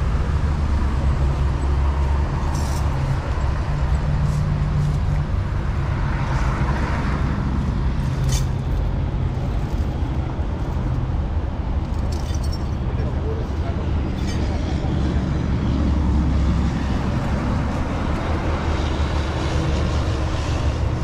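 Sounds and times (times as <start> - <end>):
heavy vehicle engine running: 0.0 - 21.0
rush of noise: 0.0 - 21.0.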